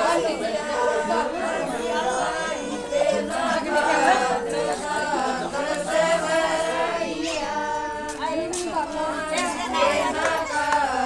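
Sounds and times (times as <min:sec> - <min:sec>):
women singing a folk song: 0:00.0 - 0:11.0.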